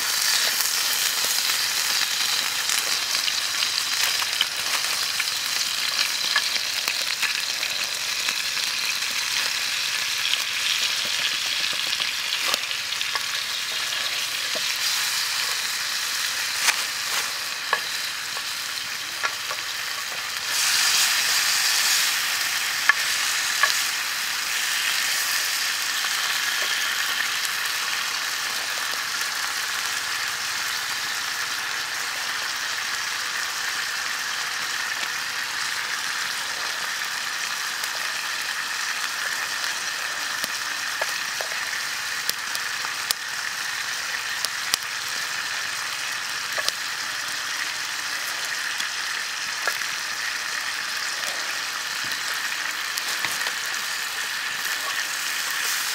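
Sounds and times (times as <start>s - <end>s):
octopus frying in hot oil: 0.0s - 55.9s.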